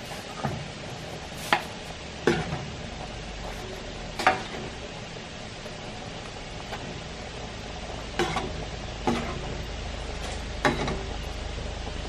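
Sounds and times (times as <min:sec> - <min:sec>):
food simmering hiss: 0:00.0 - 0:12.0.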